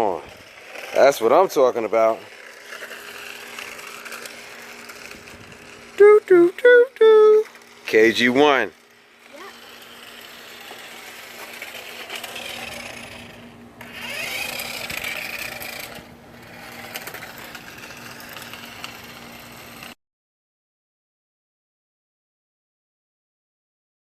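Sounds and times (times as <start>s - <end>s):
toy car electric motor whining: 0.0s - 20.0s.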